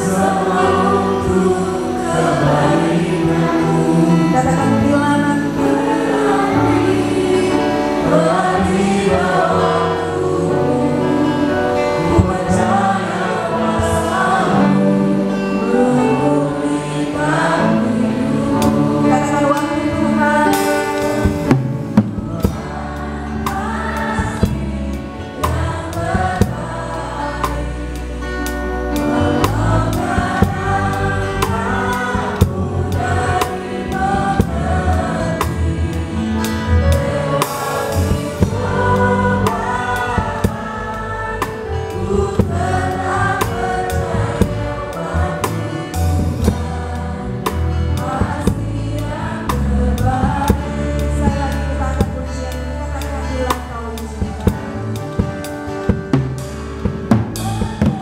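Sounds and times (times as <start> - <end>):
women singing gospel song: 0.0 - 56.1
guitar: 0.0 - 58.0
keyboard: 0.0 - 58.0.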